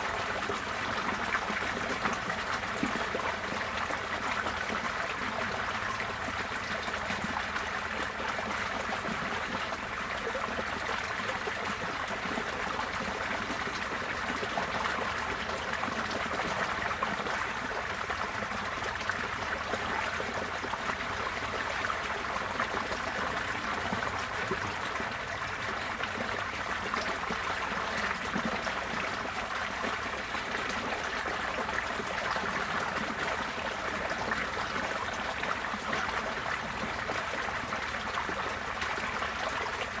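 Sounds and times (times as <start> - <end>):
floodwater rushing and trickling: 0.0 - 40.0.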